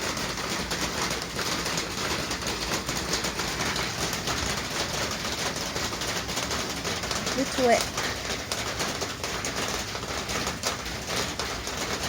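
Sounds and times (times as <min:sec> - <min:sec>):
light rain: 0:00.0 - 0:12.0
water dripping: 0:00.0 - 0:12.0.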